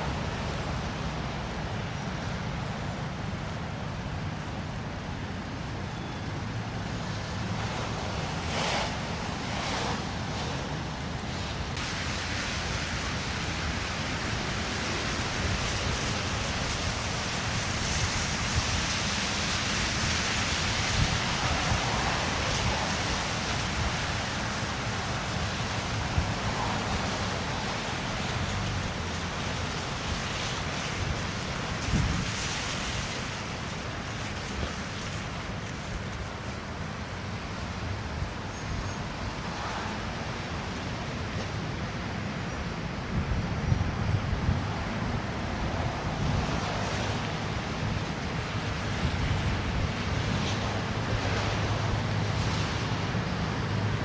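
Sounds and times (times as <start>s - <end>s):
city street traffic hiss: 0.0s - 54.0s.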